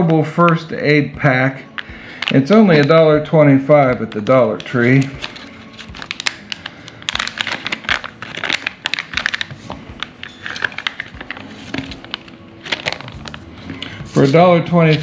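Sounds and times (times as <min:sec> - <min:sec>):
plastic packaging crinkling: 0:01.7 - 0:03.1, 0:03.9 - 0:15.0.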